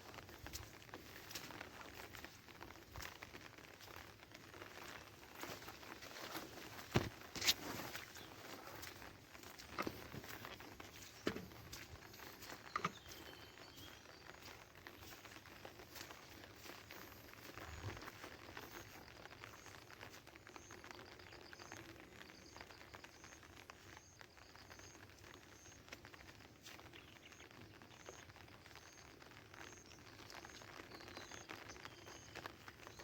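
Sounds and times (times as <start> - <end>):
faint footsteps outdoors: 0.0 - 33.0
outdoor background noise: 0.0 - 33.0.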